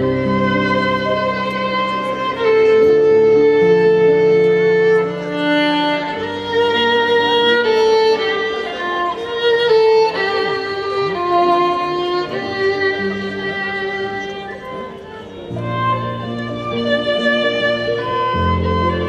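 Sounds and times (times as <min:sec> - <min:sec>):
string accompaniment: 0:00.0 - 0:19.0
violin playing slow melody: 0:00.0 - 0:19.0.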